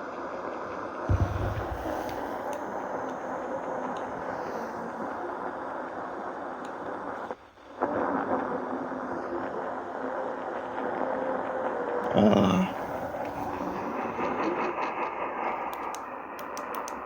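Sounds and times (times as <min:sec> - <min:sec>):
radio static hiss: 0:01.1 - 0:17.0.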